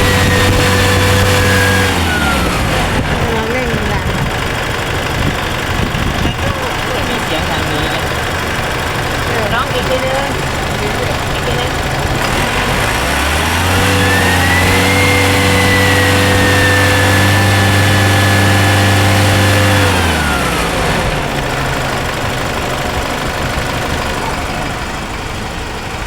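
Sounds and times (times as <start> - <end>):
turbo whine: 0.0 - 25.3
diesel engine revving: 0.0 - 26.0.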